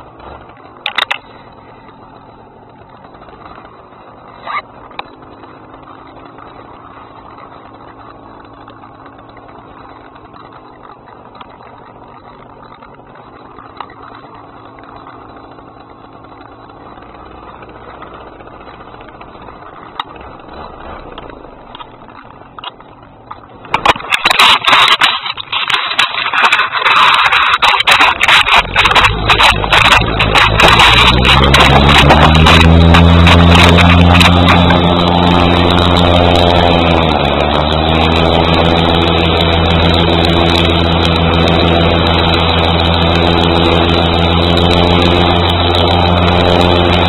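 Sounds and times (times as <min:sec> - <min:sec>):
loud rough crackling engine noise: 0:00.0 - 0:47.0
paramotor engine humming: 0:00.0 - 0:47.0.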